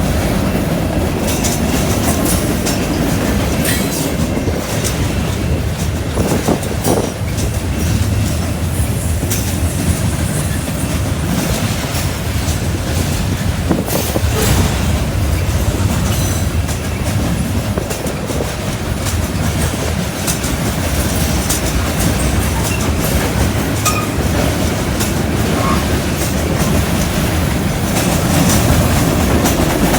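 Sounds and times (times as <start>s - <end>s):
train wheels clattering on track: 0.0s - 29.9s.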